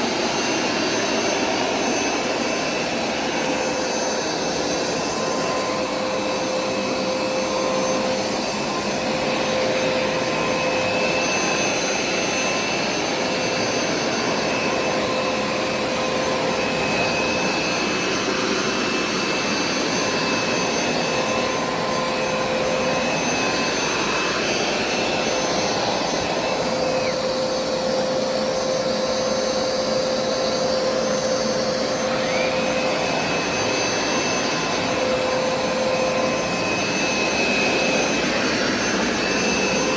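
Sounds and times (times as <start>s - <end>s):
carpet cleaner motor whine: 0.0s - 39.9s
higher whine: 0.0s - 39.9s.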